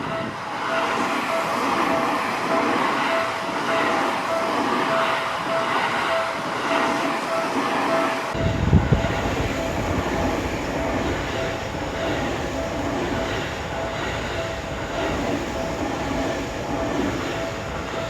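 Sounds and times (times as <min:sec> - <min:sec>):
crossing warning bell ringing: 0:00.0 - 0:18.0
train wheels rumbling on rail: 0:00.0 - 0:18.0.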